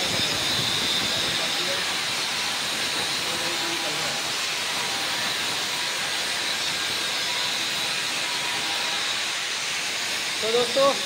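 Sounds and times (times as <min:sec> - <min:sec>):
grinding machine hiss and whine: 0:00.0 - 0:11.0.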